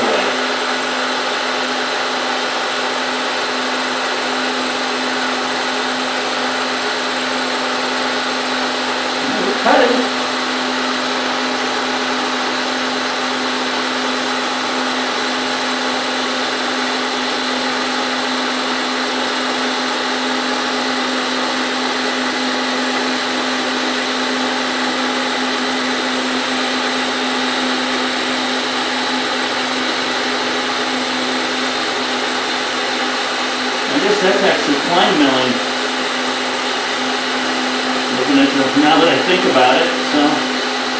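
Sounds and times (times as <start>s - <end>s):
milling machine humming with whine: 0.0s - 40.9s.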